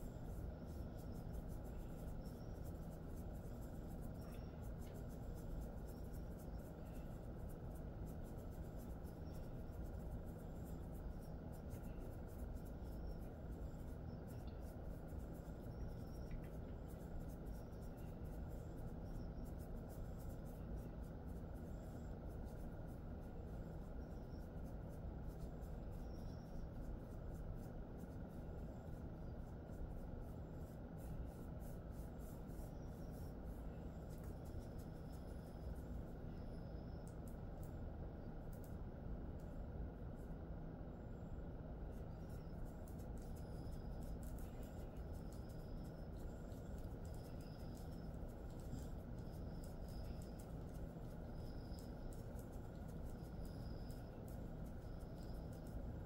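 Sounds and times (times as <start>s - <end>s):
fingers rubbing through fur: 0.0s - 37.8s, 41.9s - 56.0s
faint steady hum: 0.0s - 56.0s.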